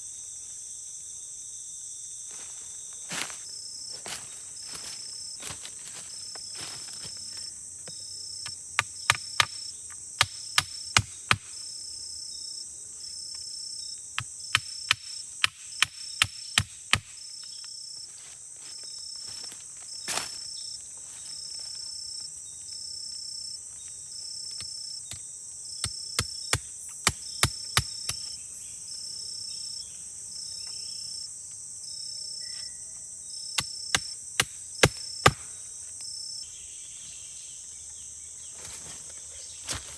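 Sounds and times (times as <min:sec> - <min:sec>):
forest insects chorus: 0:00.0 - 0:39.9.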